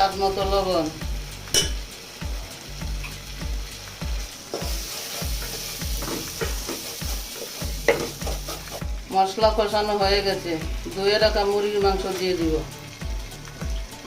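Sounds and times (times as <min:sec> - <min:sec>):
spice paste sizzling in hot oil: 0:00.0 - 0:14.0.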